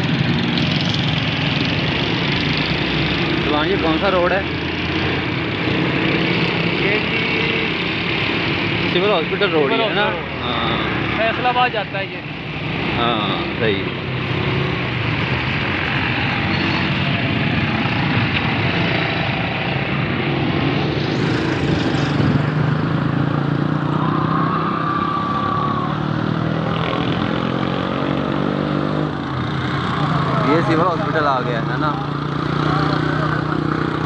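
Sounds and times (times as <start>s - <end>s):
motorcycles passing: 0.0s - 34.0s
road noise: 0.0s - 34.0s
vehicle engine hum: 0.0s - 34.0s.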